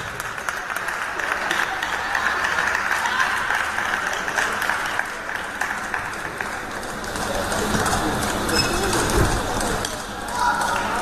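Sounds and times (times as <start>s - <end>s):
crowd murmur: 0.0s - 11.0s
spectators applauding: 0.0s - 11.0s.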